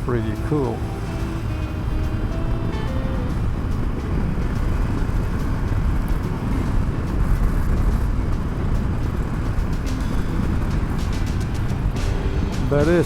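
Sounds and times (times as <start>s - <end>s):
motorcycle engine rumble: 0.0s - 13.0s
wind rush: 0.0s - 13.0s.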